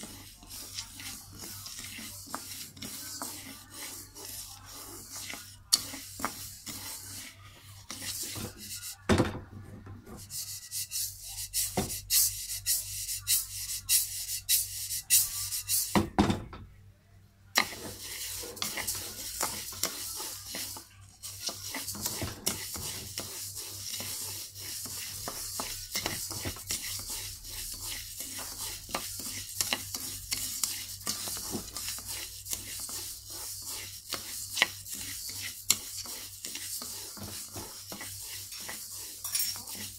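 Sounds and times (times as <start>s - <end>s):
spatula scraping rice in a wok: 0.0s - 9.1s, 10.1s - 16.0s, 17.6s - 39.9s.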